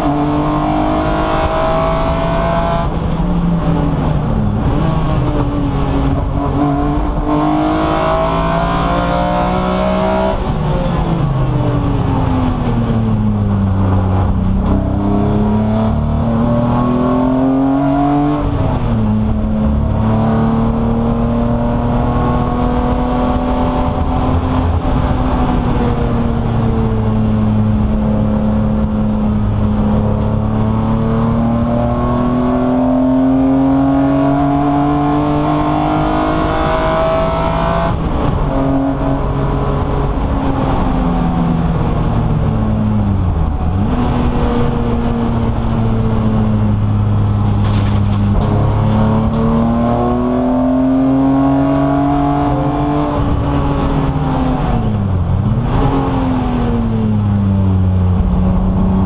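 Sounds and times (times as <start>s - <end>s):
racing engine under load: 0.0s - 59.0s.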